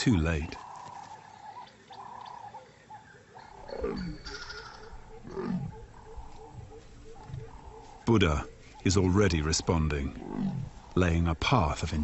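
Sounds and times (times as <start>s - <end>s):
faint chirping: 0.4s - 11.3s.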